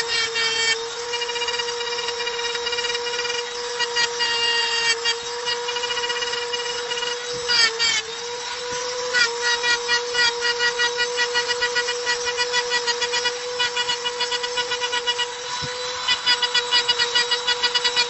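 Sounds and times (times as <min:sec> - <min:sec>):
bit grinding on stone: 0:00.0 - 0:18.0
rotary tool whining: 0:00.0 - 0:18.0.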